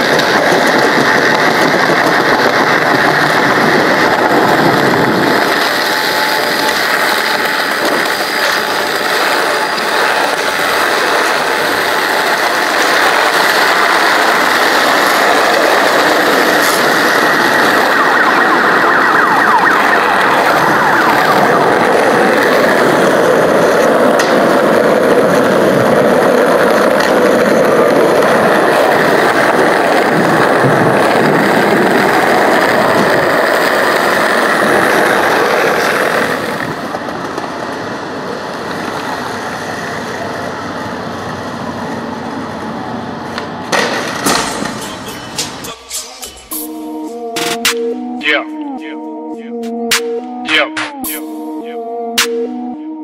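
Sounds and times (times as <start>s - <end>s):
skateboard wheels rolling on concrete: 0.0s - 46.4s.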